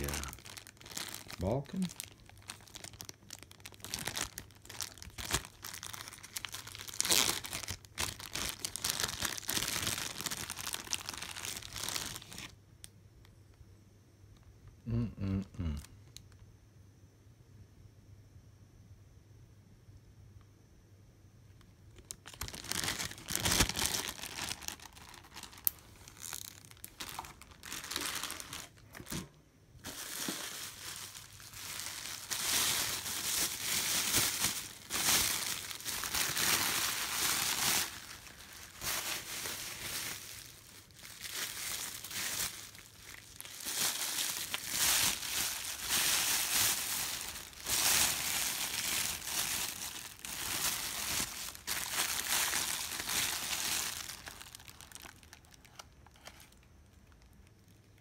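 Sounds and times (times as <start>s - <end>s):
paper crinkling: 0.0s - 12.5s, 21.9s - 57.4s
plastic bags rustling: 0.0s - 12.5s, 22.0s - 58.0s.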